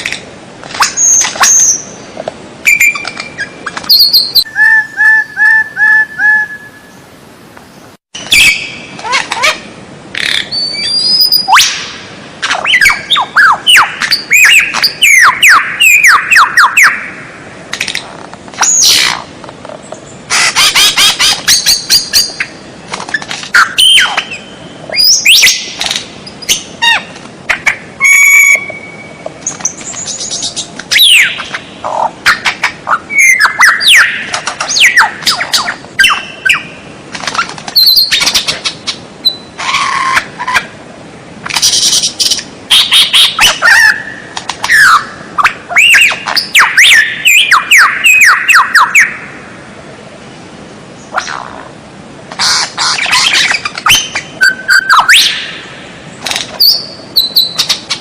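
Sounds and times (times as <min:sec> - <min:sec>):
songbird singing: 0:00.8 - 0:40.7, 0:41.5 - 0:49.6, 0:52.4 - 0:58.0.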